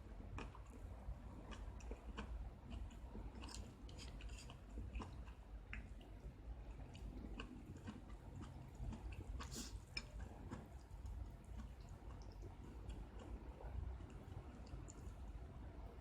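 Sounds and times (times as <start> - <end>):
chewing crisp vegetables and noodles: 0.0 - 16.0.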